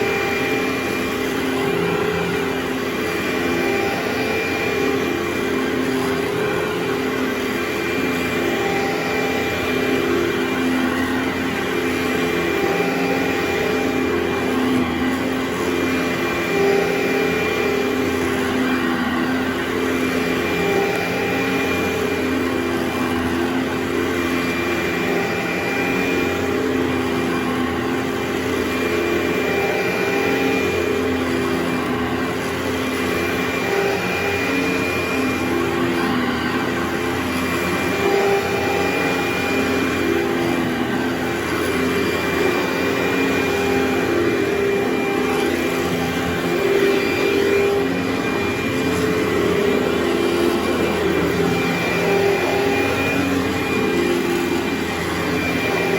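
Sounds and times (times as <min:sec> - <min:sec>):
vacuum running: 0:00.0 - 0:55.9.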